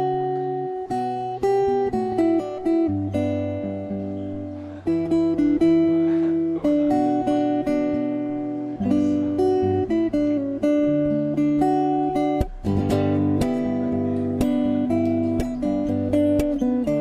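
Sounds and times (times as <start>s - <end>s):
fingerstyle acoustic guitar: 0.0s - 17.0s.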